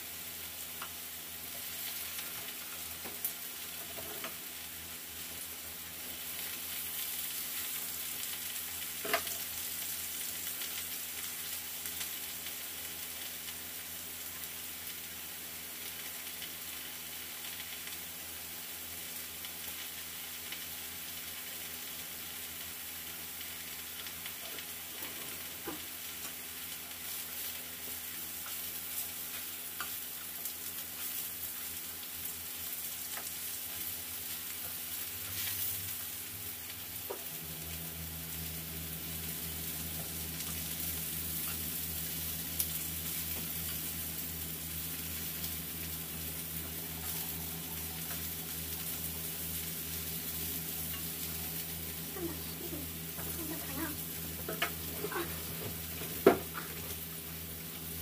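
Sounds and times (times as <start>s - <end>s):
patties sizzling in oil: 0.0s - 58.0s.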